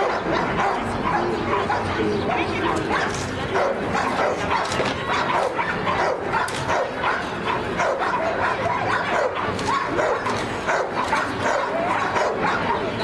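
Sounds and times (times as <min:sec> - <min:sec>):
dog barking rapidly: 0:00.0 - 0:13.0.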